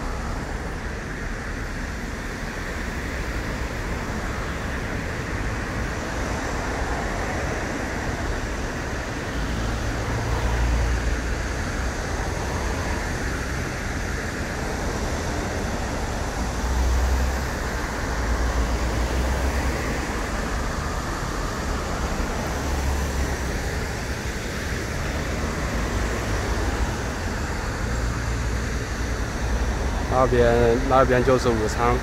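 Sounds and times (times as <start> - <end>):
cars driving past: 0.0 - 32.0.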